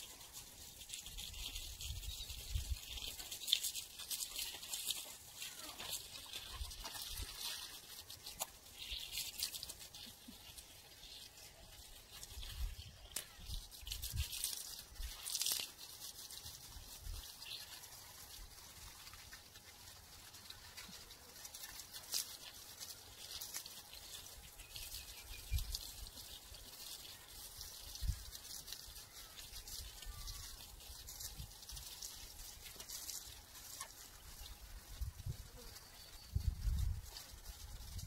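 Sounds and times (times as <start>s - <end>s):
drops pattering on leaves: 0.0s - 38.0s
hose water spraying: 0.0s - 38.0s.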